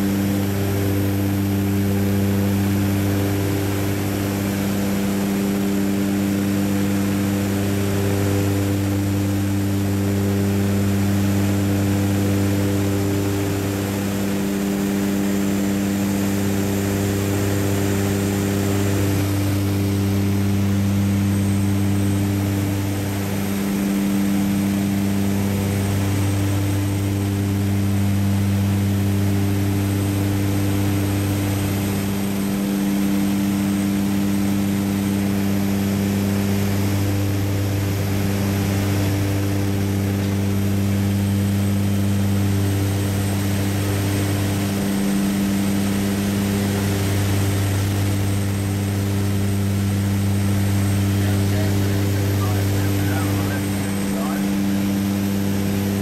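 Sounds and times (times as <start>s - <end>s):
propeller aircraft engine hum: 0.0s - 56.0s.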